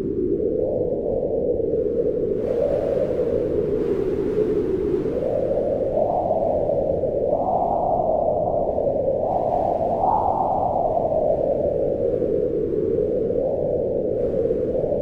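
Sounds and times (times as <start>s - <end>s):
low moaning wind: 0.0s - 15.0s.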